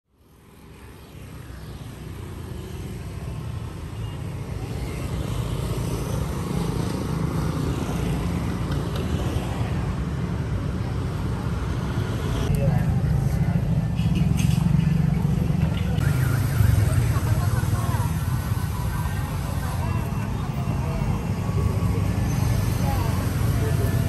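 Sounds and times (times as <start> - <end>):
scooters and motorcycles passing: 0.4 - 24.0.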